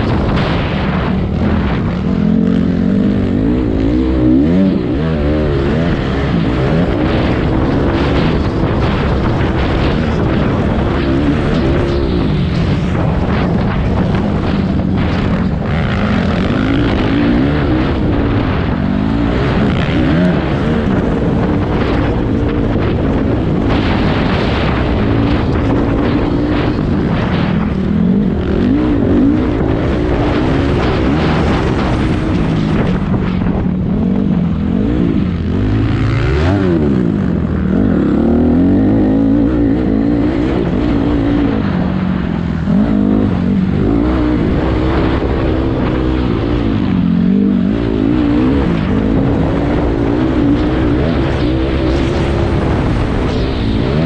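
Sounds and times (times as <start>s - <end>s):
racing engines revving: 0.0s - 54.0s.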